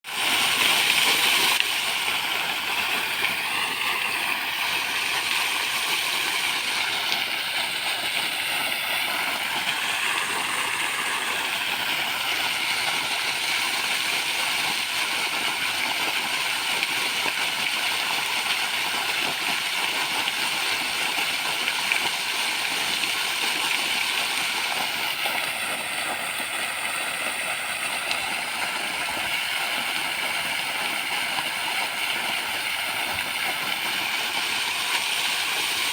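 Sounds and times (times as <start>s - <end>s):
water fountain splashing: 0.0s - 35.9s.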